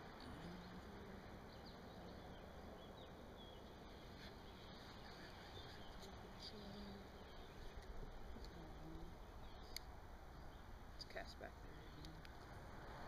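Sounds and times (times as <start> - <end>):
steady outdoor hiss: 0.0 - 13.0
faint bird chirps: 0.1 - 12.2.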